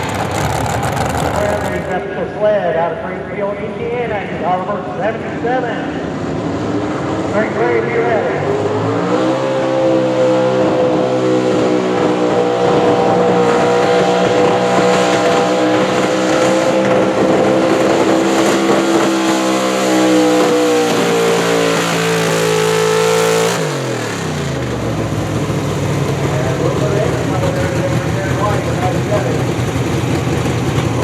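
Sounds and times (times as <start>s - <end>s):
truck engine at high revs: 0.0s - 2.6s, 5.2s - 31.0s.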